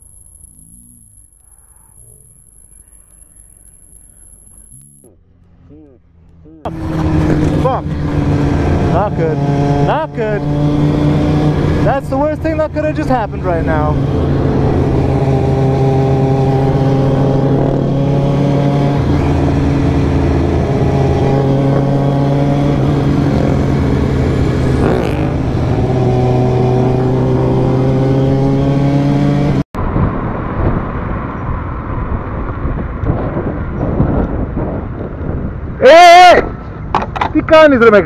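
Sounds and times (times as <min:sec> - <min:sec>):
street noise: 0:00.0 - 0:38.0
wind: 0:00.0 - 0:38.0.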